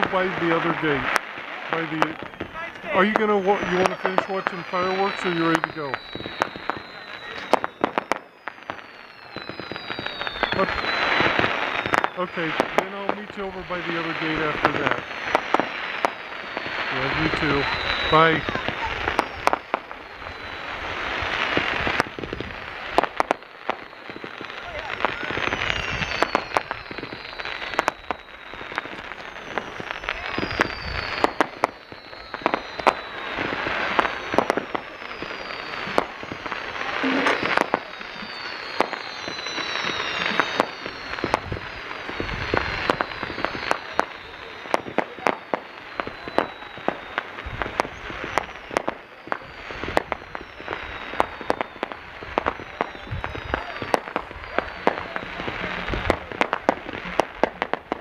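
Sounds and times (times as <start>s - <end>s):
falling whistles: 0.0s - 57.8s
fireworks bangs and crackling: 0.0s - 58.0s.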